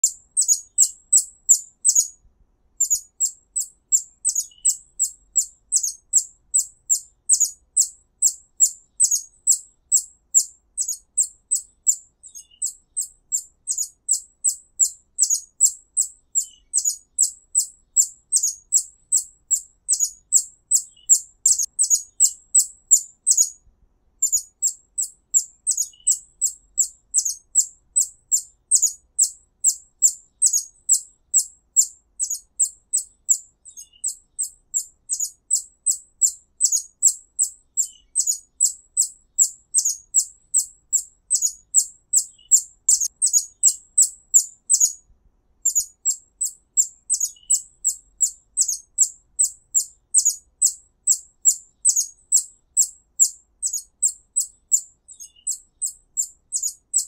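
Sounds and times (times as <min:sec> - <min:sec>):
high thin bird chirps: 0:00.0 - 0:57.0.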